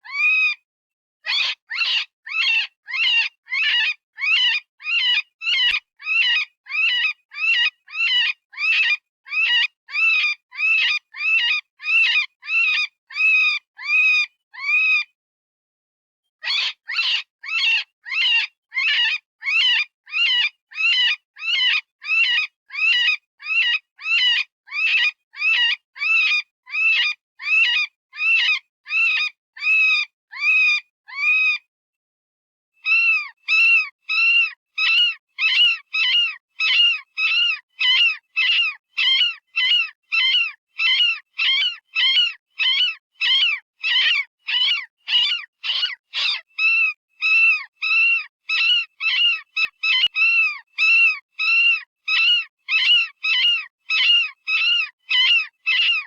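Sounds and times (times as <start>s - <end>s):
high-pitched rabbit distress squeals: 0.0s - 0.6s, 1.2s - 15.1s, 16.4s - 31.7s, 32.8s - 56.0s.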